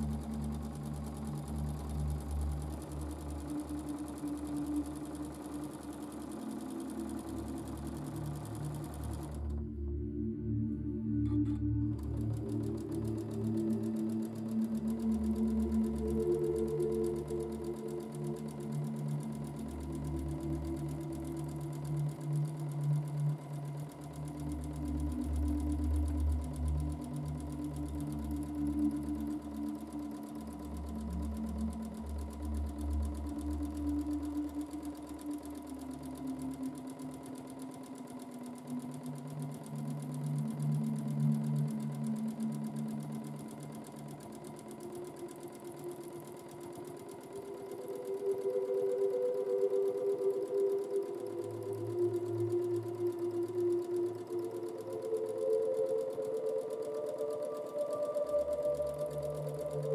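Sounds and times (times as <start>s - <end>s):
sewing machine humming: 0.0s - 59.9s.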